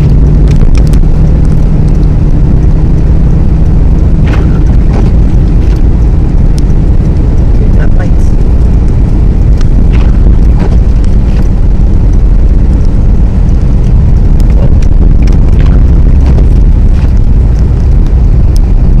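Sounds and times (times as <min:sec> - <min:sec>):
car driving low rumble: 0:00.0 - 0:19.0.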